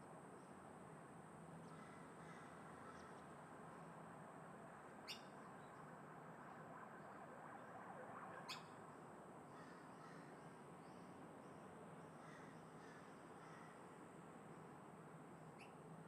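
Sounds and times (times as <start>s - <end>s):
wind: 0.0s - 16.0s
distant traffic: 1.0s - 16.0s.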